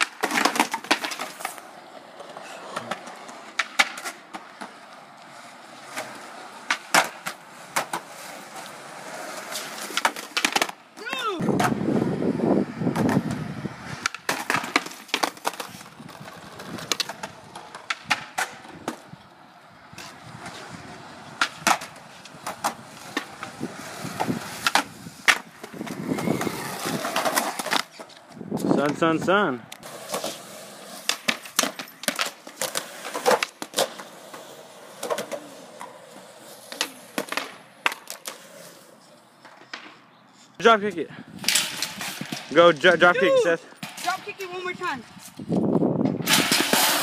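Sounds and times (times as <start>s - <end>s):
skateboards clacking on concrete: 0.0s - 47.0s.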